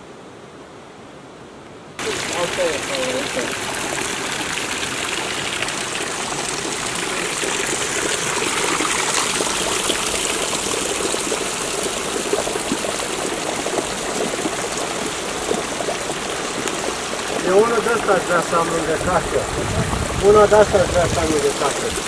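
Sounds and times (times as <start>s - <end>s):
water trickling down rock: 2.0s - 22.0s.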